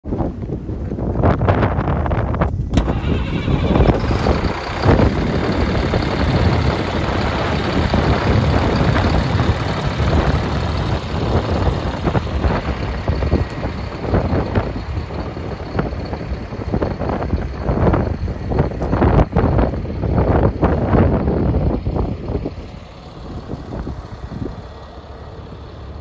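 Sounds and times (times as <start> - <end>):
truck diesel engine idling: 2.1 - 26.0.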